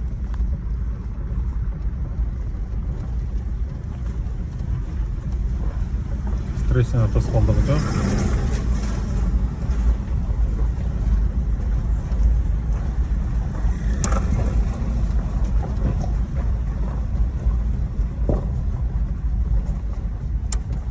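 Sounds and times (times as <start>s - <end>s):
car engine rumble: 0.0s - 20.9s
road and wind noise: 0.0s - 20.9s.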